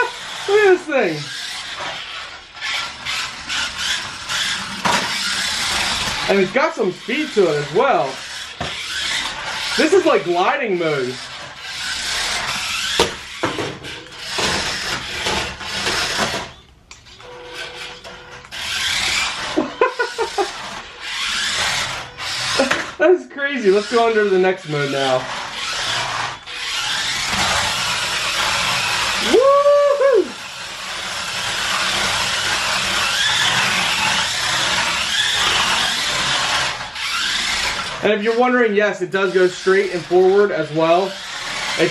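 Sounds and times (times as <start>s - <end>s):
toy car wheels skidding on floor: 0.0s - 41.9s.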